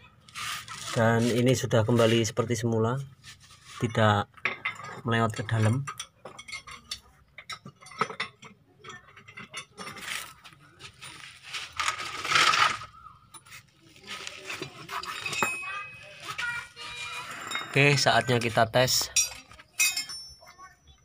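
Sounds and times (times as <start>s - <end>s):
metal tools clinking: 3.7s - 21.0s.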